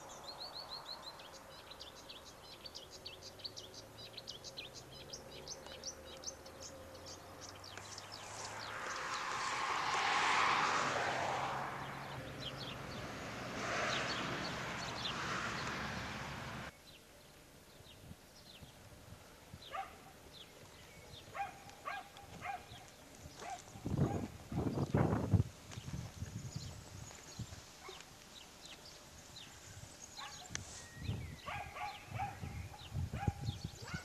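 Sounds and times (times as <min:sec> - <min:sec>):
birds chirping: 0:00.0 - 0:09.7, 0:11.7 - 0:18.9, 0:19.5 - 0:34.0.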